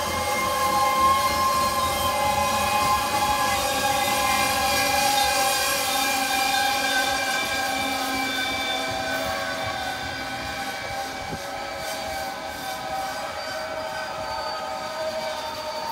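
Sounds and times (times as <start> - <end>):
train wheels squealing: 0.0 - 15.9.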